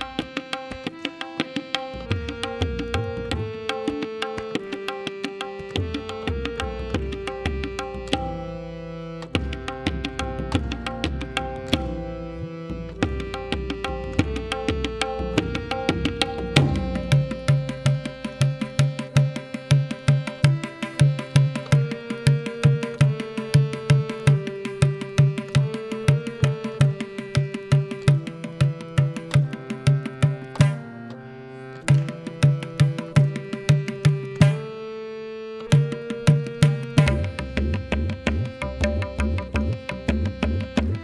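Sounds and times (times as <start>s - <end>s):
hand drums: 0.0s - 8.4s, 9.2s - 12.2s, 13.0s - 30.8s, 31.9s - 34.6s, 35.7s - 41.0s
harmonium melody in held notes: 0.0s - 41.0s.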